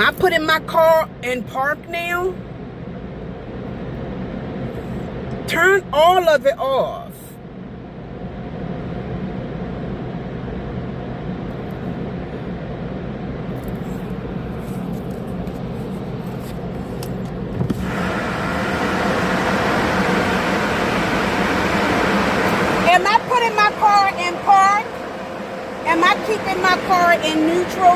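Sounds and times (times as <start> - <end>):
car wash machinery hum and hiss: 0.0 - 27.9.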